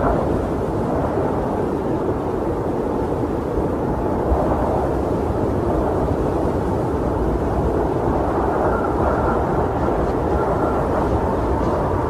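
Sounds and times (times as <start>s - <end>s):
blizzard wind rushing: 0.0s - 12.0s.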